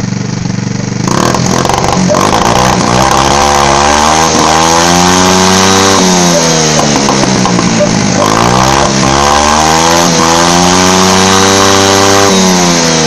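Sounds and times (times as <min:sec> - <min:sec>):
small motorcycle engine revving: 0:00.0 - 0:13.0.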